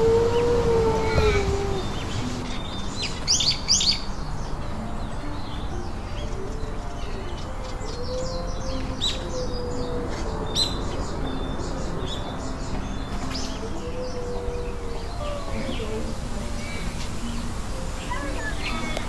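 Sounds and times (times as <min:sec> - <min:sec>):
birds chirping and twittering: 0:00.0 - 0:19.0.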